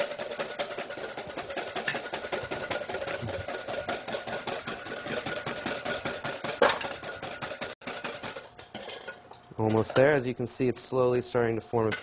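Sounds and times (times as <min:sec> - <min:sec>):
whisk beating in metal bowl: 0:00.0 - 0:10.3, 0:11.7 - 0:12.0.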